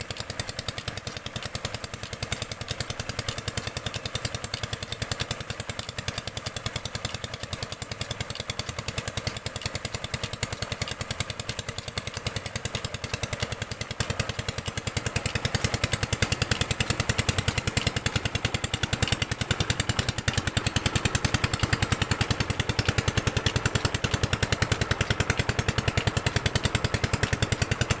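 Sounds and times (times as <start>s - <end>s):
diesel engine exhaust beat: 0.0s - 28.0s.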